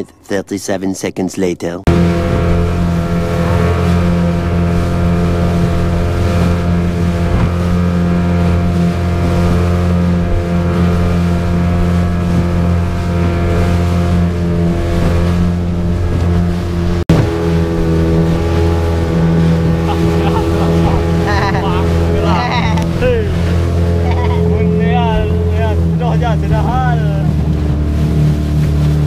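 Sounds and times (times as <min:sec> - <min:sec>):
boat engine droning: 0:01.9 - 0:29.0.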